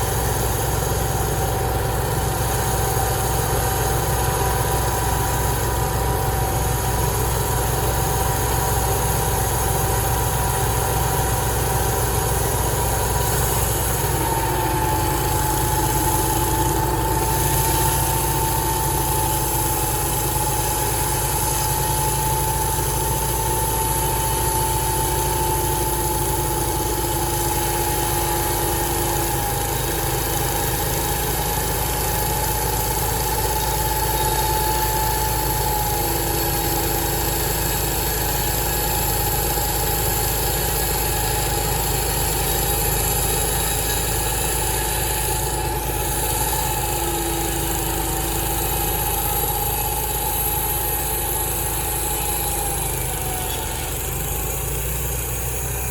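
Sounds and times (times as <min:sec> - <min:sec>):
high machine whine: 0:00.0 - 0:55.9
low machine tone: 0:00.0 - 0:55.9
sawmill engine hum: 0:00.0 - 0:55.9.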